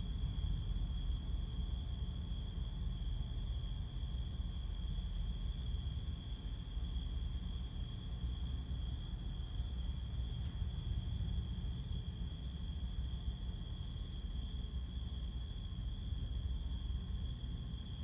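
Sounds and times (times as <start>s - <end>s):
night insects trilling: 0.0s - 18.0s.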